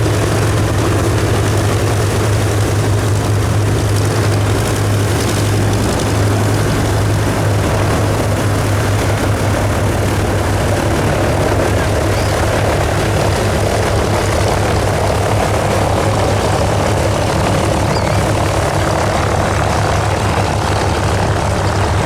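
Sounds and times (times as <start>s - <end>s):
propeller aircraft engine drone: 0.0s - 22.0s.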